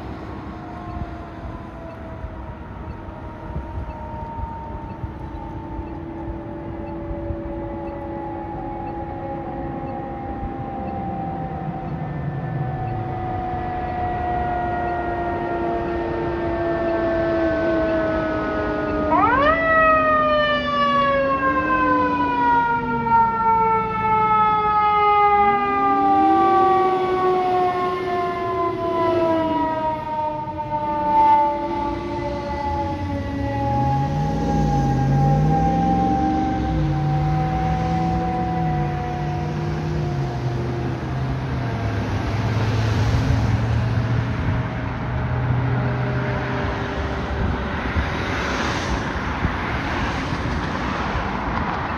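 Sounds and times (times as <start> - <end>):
distant fire engine siren: 0.0 - 51.9
low rumble of traffic: 0.0 - 51.9.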